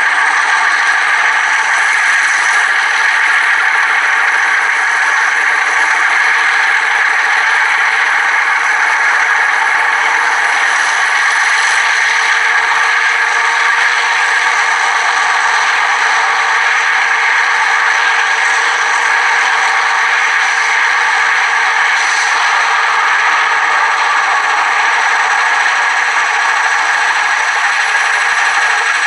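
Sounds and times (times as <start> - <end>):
model locomotive motor rattling: 0.0 - 29.0.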